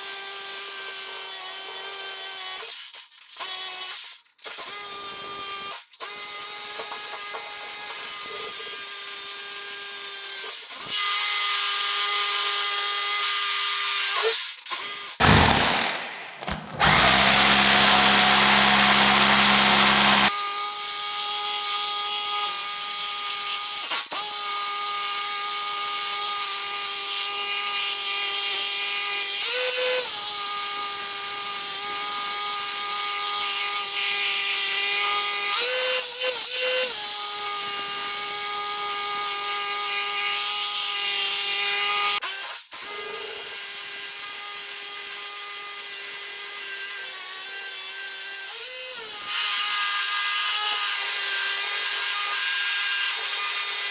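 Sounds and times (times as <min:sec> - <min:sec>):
power drill drilling into concrete: 0:00.0 - 0:53.9.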